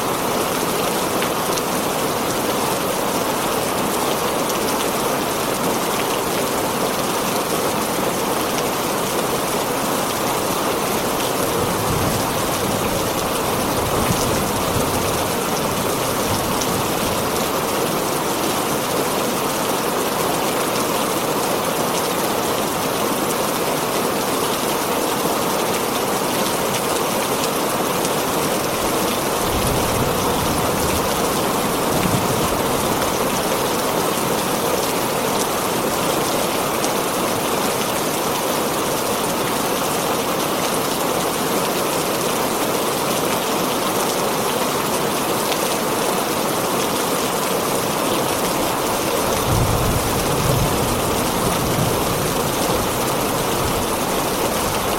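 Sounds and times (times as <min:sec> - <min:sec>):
heavy rain on a tin roof: 0:00.0 - 0:54.9.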